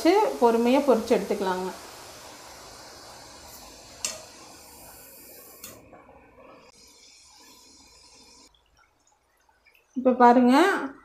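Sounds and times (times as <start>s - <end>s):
oil sizzling and bubbling: 0.0s - 11.0s.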